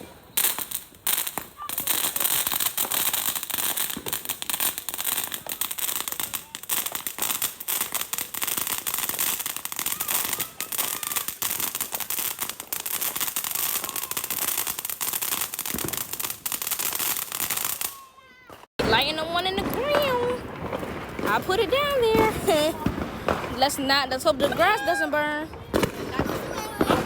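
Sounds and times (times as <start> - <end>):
fireworks crackling pops: 0.0 - 27.0.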